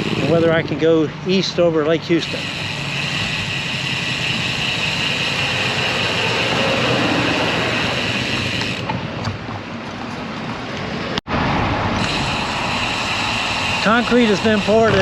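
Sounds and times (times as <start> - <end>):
bicycle road noise: 0.0 - 15.0.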